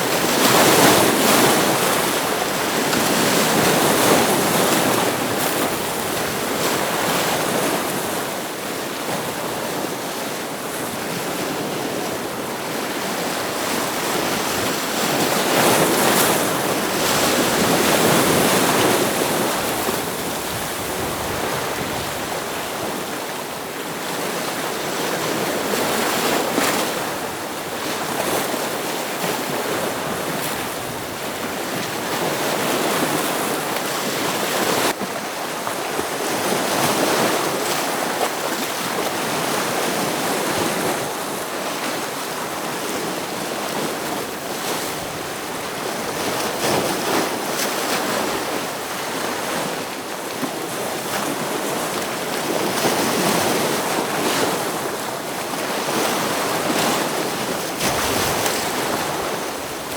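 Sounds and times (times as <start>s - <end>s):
ocean waves breaking on rocks: 0.0s - 59.9s.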